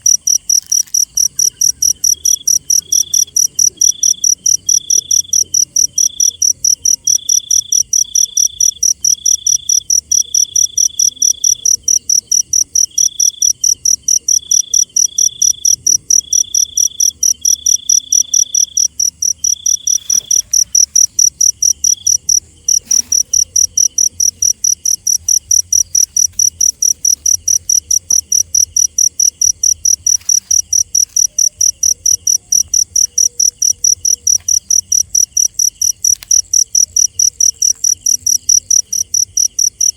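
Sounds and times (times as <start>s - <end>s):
cricket chirping: 0.0s - 39.9s
lower-pitched insect trilling: 0.0s - 39.9s.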